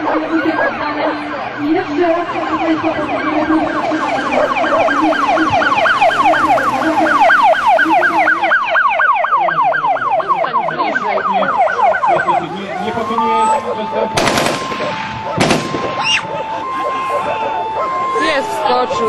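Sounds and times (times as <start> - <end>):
police siren yelp: 0.0 - 19.0.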